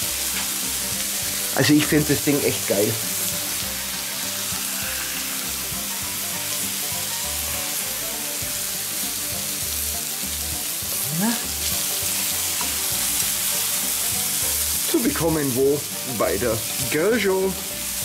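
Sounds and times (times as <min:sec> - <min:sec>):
food sizzling on hot plate: 0:00.0 - 0:18.0.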